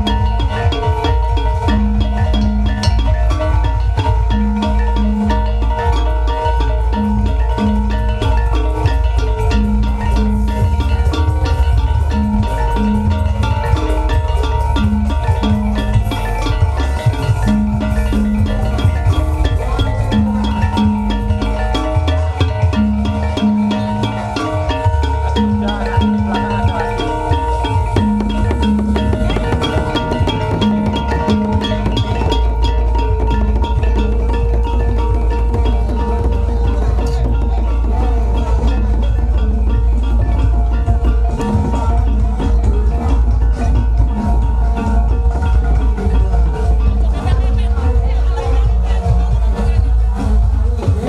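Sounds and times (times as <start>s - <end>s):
drums: 0.0s - 51.0s
heavy steady bass: 0.0s - 51.0s
metallophones and gongs: 0.0s - 51.0s.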